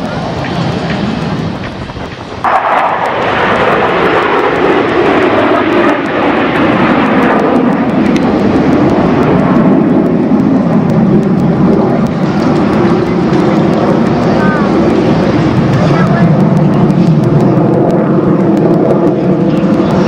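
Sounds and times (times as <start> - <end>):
jet roar overhead: 0.0 - 20.0.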